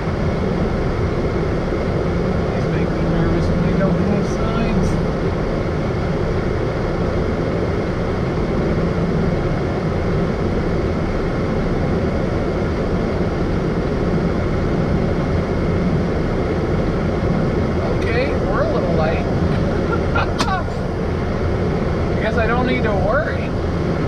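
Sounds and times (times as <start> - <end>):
diesel truck engine rumbling: 0.0 - 24.0.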